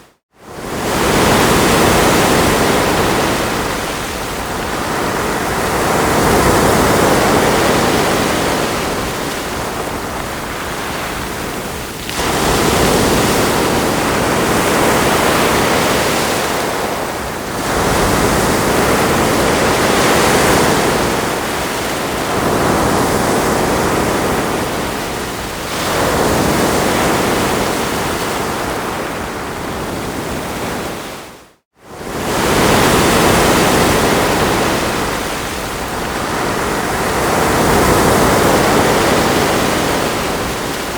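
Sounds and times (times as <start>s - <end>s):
waves breaking on shore: 0.0s - 40.9s.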